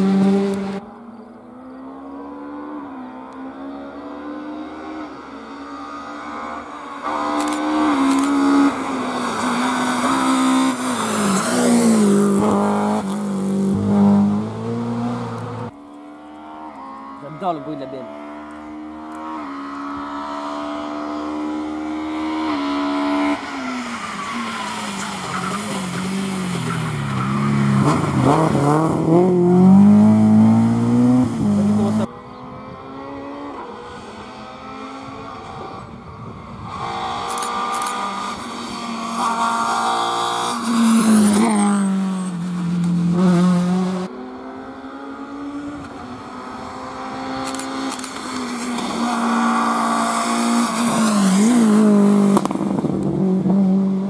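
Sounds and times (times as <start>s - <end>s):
rally car engine revving: 1.7s - 36.0s, 36.6s - 54.0s.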